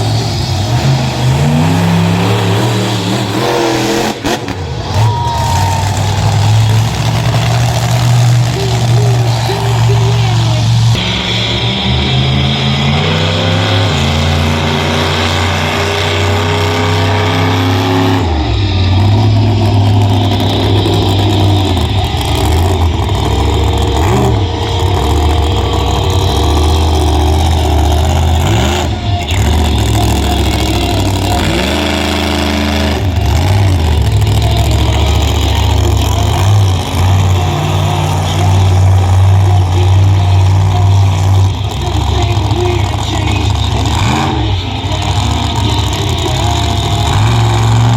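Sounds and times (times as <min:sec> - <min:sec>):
monster truck engine revving: 0:00.0 - 0:47.9.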